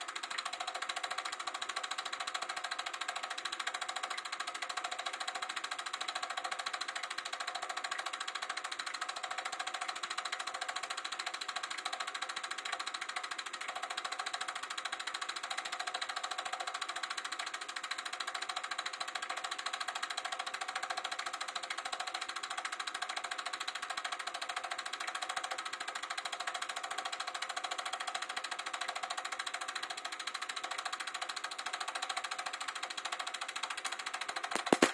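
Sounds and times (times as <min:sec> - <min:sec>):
film projector clattering: 0:00.0 - 0:34.9.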